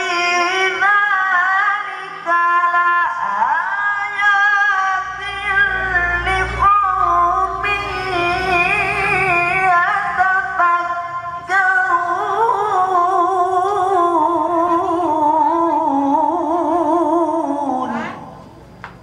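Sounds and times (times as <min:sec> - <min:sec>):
man chanting melismatically: 0:00.0 - 0:18.6.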